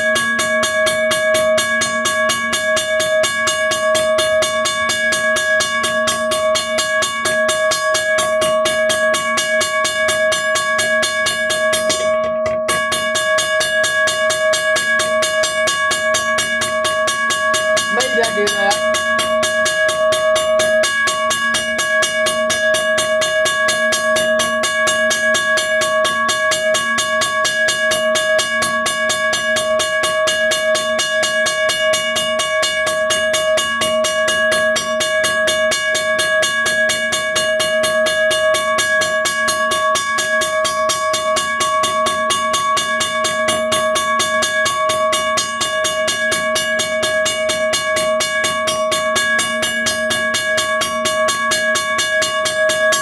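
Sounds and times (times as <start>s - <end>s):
railroad crossing bell ringing: 0.0s - 53.0s.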